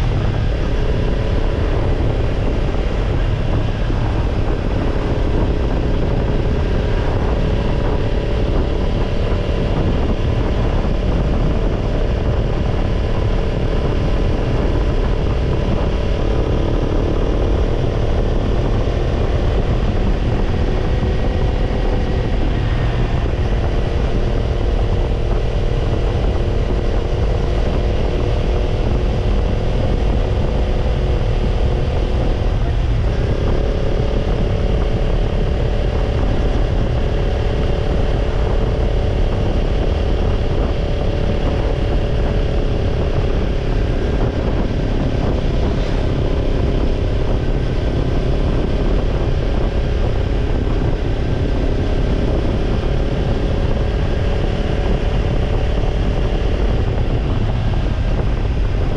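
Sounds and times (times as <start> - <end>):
motorcycle engine rumbling: 0.0 - 58.9.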